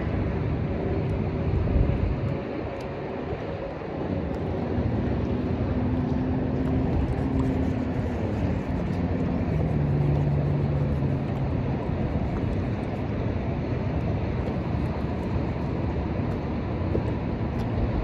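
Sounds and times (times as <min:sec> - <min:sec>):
distant motor droning: 0:00.0 - 0:18.0
wind rumble on microphone: 0:00.0 - 0:18.0.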